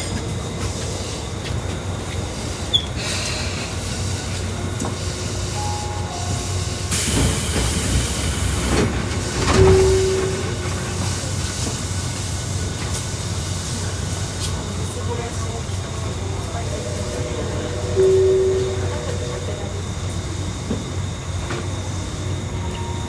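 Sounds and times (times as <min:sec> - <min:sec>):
train rumble from on board: 0:00.0 - 0:23.0.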